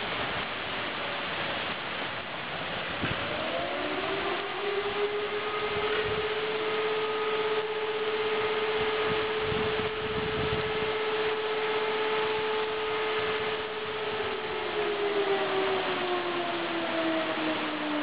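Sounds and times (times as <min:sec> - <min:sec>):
heavy rain hissing: 0:00.0 - 0:18.0
siren steady note: 0:02.9 - 0:18.0.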